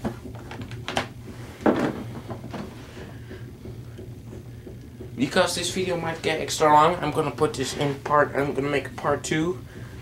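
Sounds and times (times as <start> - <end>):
objects shuffling: 0.0 - 8.6
steady low hum: 0.0 - 10.0.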